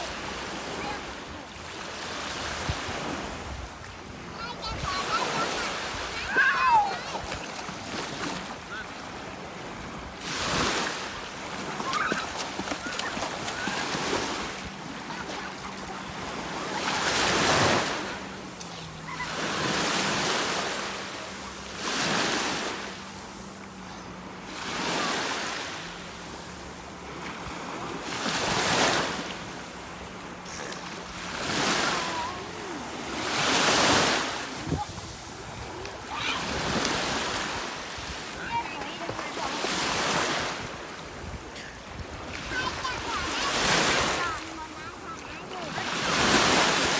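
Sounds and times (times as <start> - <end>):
sea waves washing in: 0.0 - 46.9.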